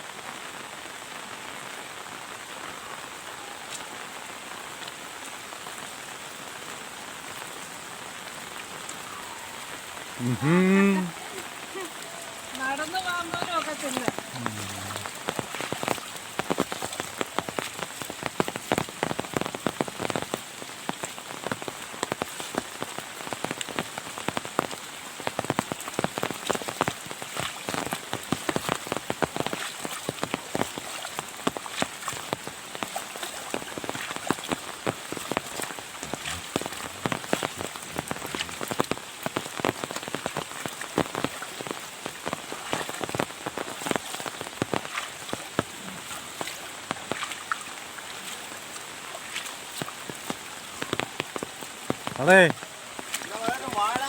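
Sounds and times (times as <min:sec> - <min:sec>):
heavy rain falling: 0:00.0 - 0:54.0
raindrops hitting close by: 0:00.0 - 0:54.0.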